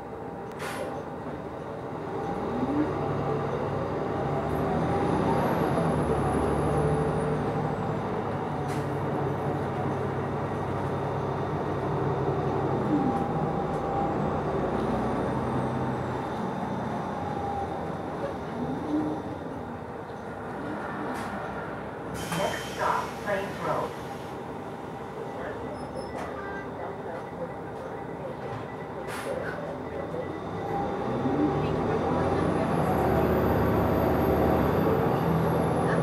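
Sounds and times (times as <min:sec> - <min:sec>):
bus engine running: 0:00.0 - 0:36.0.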